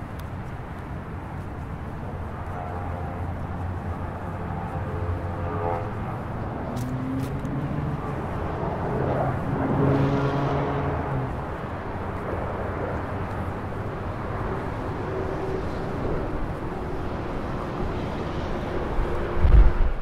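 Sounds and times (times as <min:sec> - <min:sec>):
jet airliner flying overhead: 0:00.0 - 0:20.0
steady low rumble: 0:00.0 - 0:20.0.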